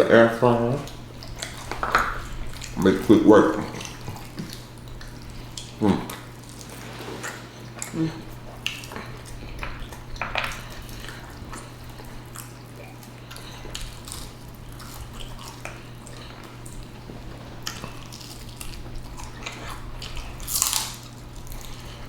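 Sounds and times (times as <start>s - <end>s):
person chewing crunchy food: 0.0s - 22.0s
steady low hum: 0.0s - 22.0s.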